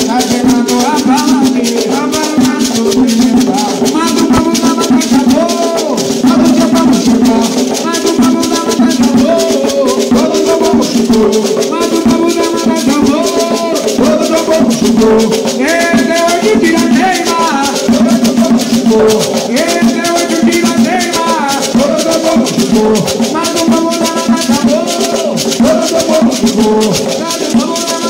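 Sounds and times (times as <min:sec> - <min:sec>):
hand drums: 0:00.0 - 0:28.0
men singing: 0:00.0 - 0:28.0.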